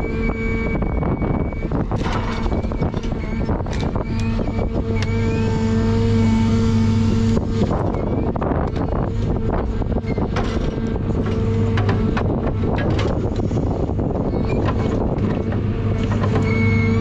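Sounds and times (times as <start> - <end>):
diesel engine under load: 0.0 - 17.0
hydraulic crane whine: 0.0 - 17.0.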